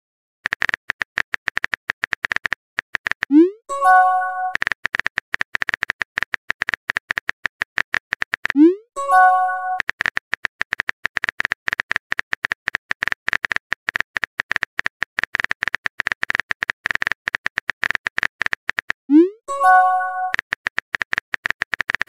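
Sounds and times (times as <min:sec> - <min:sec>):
phone keyboard typing clicks: 0:00.4 - 0:22.0.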